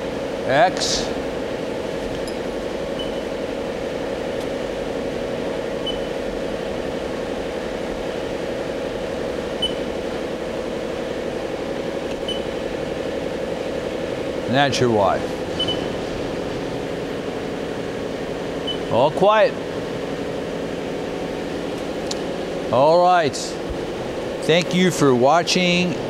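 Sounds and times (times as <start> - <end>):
machine mechanical hum: 0.0 - 26.0.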